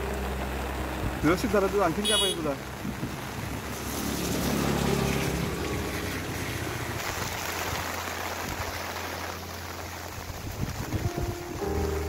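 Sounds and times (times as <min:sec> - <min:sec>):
rain: 0:00.0 - 0:12.0
river rushing: 0:00.0 - 0:12.0.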